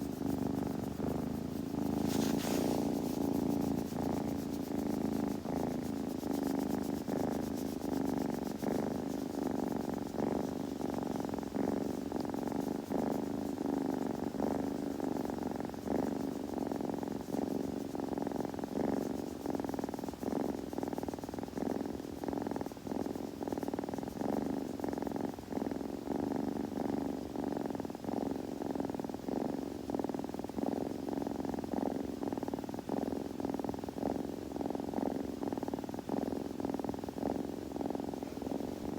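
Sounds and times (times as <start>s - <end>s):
kitten purring: 0.0s - 38.9s.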